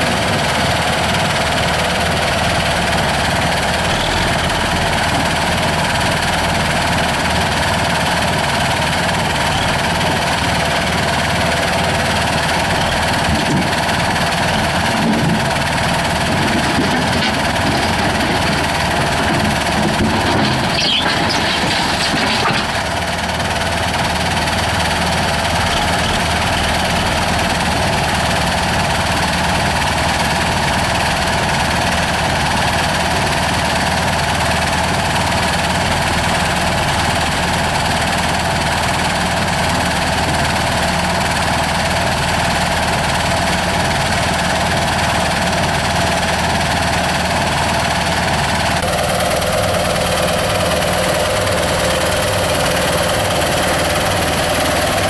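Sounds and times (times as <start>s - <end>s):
machinery engine running: 0.0s - 55.0s.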